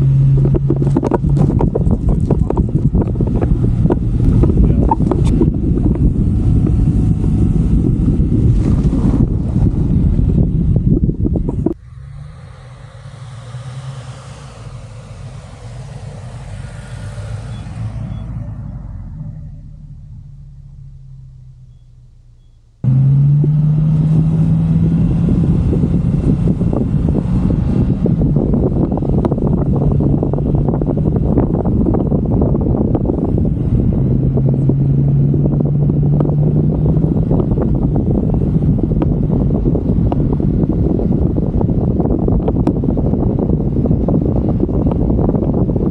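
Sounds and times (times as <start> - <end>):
pickup engine humming: 0.0 - 45.9.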